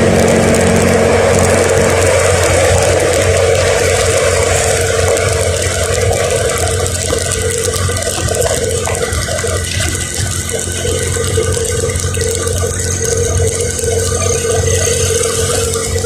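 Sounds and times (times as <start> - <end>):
engine hum: 0.0 - 16.0
tyres hissing on wet road: 0.0 - 16.0.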